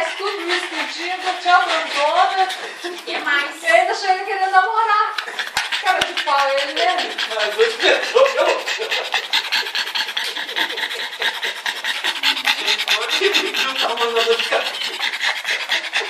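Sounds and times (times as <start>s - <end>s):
dog panting fast: 0.0s - 16.0s.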